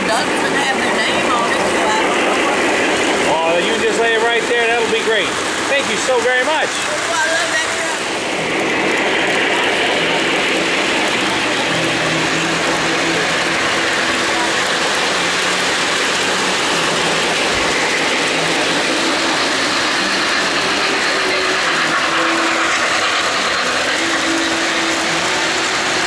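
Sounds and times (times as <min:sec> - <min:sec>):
faint motor hum: 0:00.0 - 0:26.0
model train wheels rumbling on rail: 0:00.0 - 0:26.0.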